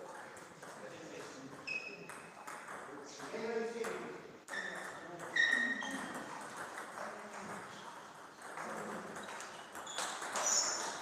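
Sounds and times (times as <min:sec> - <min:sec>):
faint hall murmur: 0:00.0 - 0:11.0.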